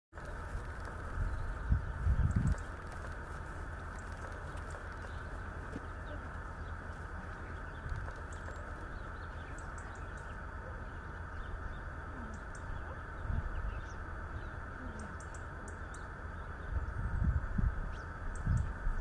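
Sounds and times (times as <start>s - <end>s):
wind on microphone: 0.2s - 9.5s, 11.6s - 15.1s, 16.5s - 19.0s.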